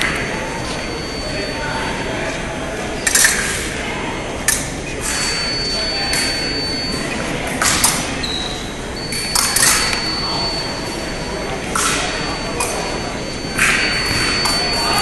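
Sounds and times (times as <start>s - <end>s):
gym hall din: 0.0s - 15.0s.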